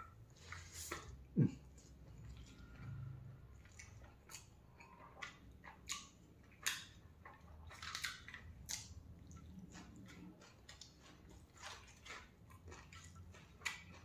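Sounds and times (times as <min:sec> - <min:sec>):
chewing and lip smacks: 0:00.0 - 0:14.0.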